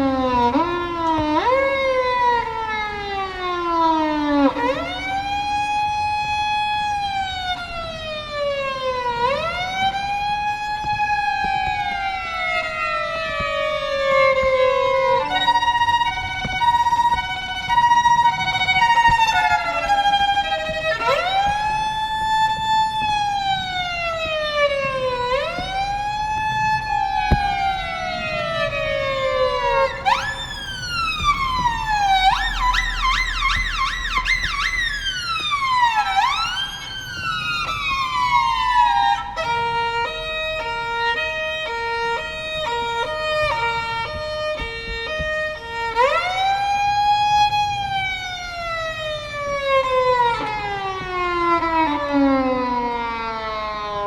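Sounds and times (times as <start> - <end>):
violin imitating sirens: 0.0 - 54.0.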